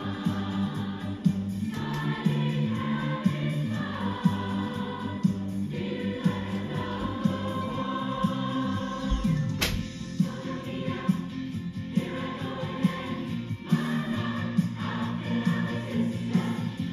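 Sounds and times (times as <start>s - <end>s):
choir singing held chords: 0.0s - 16.9s.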